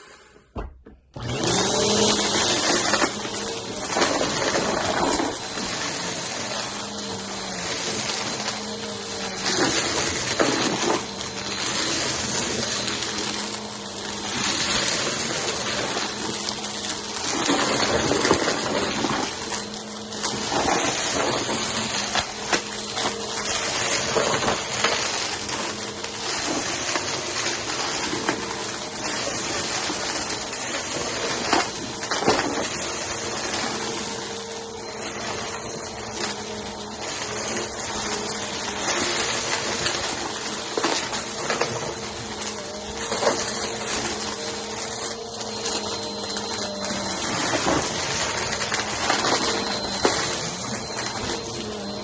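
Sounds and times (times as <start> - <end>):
vacuum cleaner running: 0.0 - 52.0.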